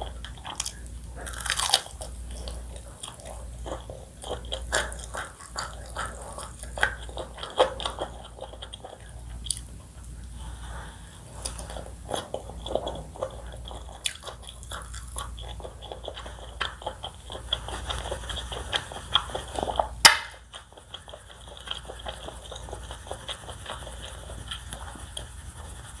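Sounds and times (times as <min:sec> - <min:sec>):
person chewing and biting: 0:00.0 - 0:10.4, 0:11.2 - 0:25.4.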